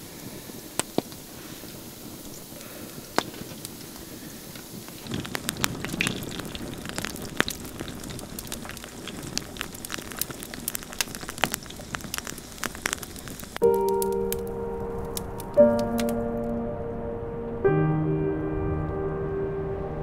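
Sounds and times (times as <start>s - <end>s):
campfire crackling and popping: 0.0s - 16.6s.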